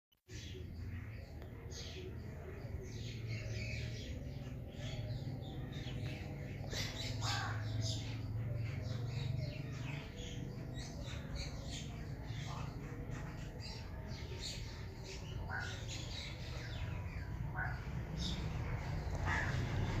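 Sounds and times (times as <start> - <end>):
small birds chirping: 0.3 - 20.0.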